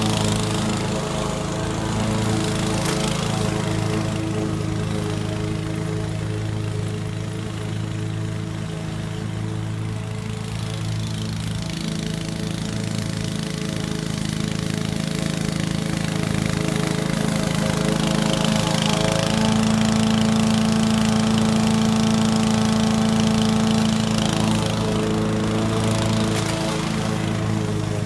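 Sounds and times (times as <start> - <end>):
lawn mower engine running: 0.0 - 28.0
mower blade cutting grass: 0.0 - 28.0.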